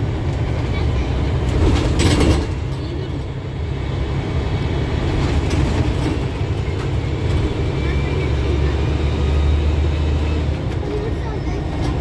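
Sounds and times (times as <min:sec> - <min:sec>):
bus engine and tyres rumbling: 0:00.0 - 0:12.0.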